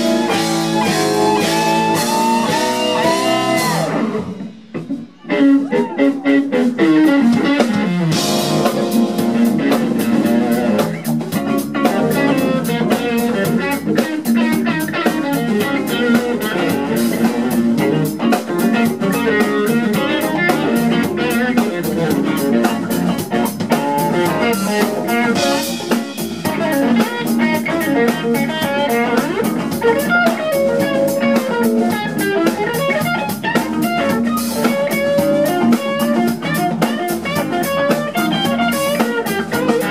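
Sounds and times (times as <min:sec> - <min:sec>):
funk band playing: 0:00.0 - 0:39.9.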